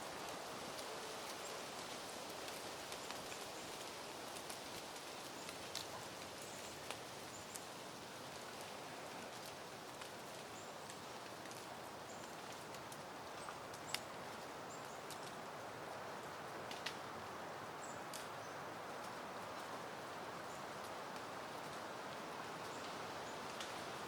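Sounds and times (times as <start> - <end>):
wind rustling through foliage: 0.0 - 24.0.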